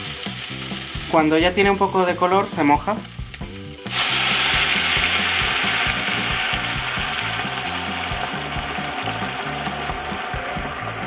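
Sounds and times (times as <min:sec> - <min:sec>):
water pouring: 0:00.0 - 0:11.0
water sizzling in hot pan: 0:00.0 - 0:11.0.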